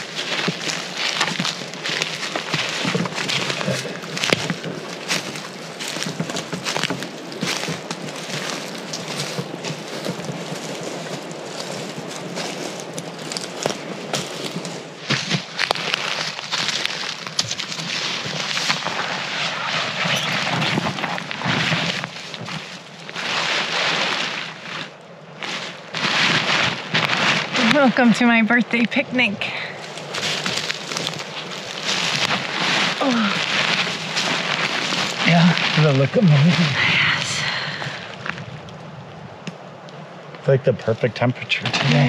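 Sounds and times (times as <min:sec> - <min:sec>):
fabric blanket rustling and flapping: 0:00.0 - 0:28.0, 0:30.0 - 0:37.2
footsteps crunching on pine straw: 0:00.0 - 0:28.3, 0:29.7 - 0:38.6
small crackles: 0:00.0 - 0:42.0.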